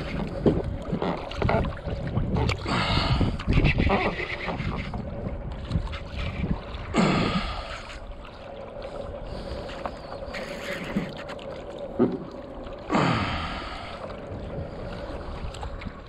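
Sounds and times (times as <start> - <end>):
water splashing around a kayak: 0.0 - 16.0.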